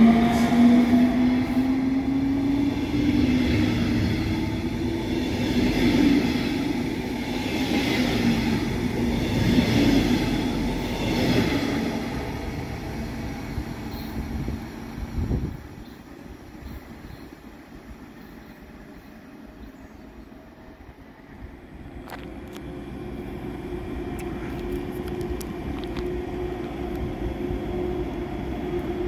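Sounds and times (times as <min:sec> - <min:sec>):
train wheel and track rumble: 0:00.0 - 0:29.0.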